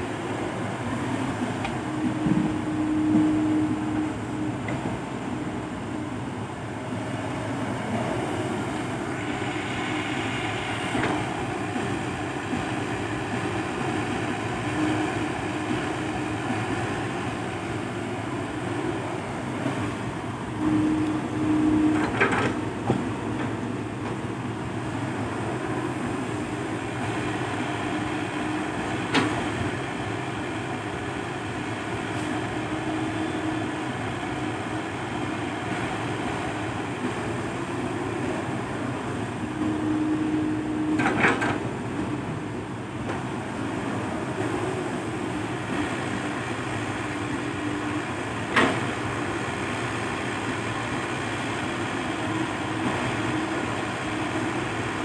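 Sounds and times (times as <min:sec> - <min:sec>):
excavator diesel rumble: 0:00.0 - 0:55.0.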